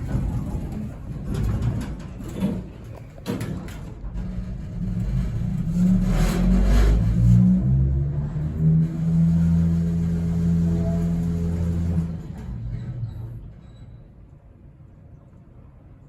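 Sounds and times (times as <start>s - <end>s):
elevator running with low rumble: 0.0s - 16.0s.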